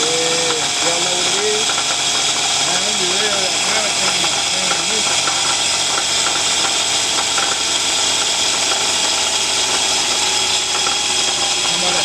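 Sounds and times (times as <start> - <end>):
ac compressor whirring: 0.0 - 12.0.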